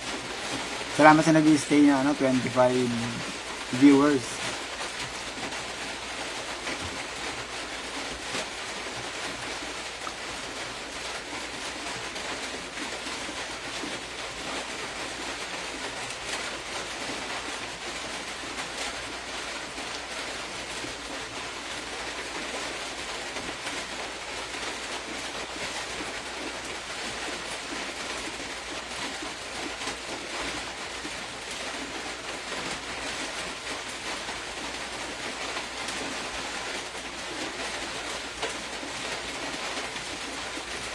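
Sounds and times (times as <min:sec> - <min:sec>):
background hiss with crackle: 0:00.0 - 0:40.9.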